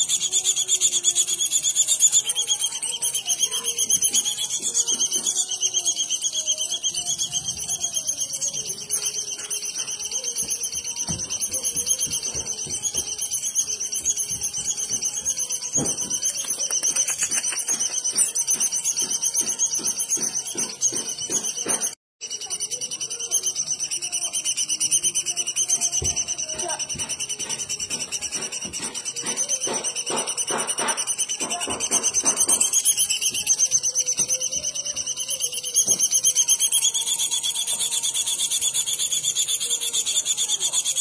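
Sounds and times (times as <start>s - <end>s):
high fast bird trill: 0.0s - 41.0s.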